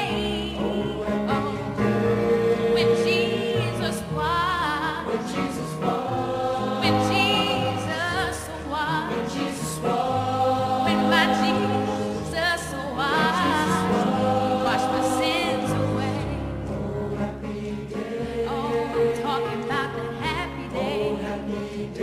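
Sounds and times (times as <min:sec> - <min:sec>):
choir singing: 0:00.0 - 0:22.0
steady backing notes: 0:00.0 - 0:22.0.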